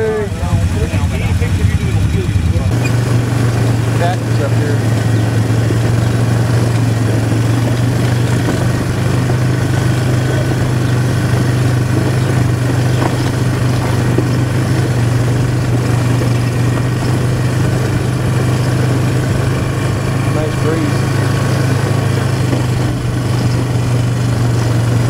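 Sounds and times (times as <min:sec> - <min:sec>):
quad bike engine hum: 0:00.0 - 0:25.0.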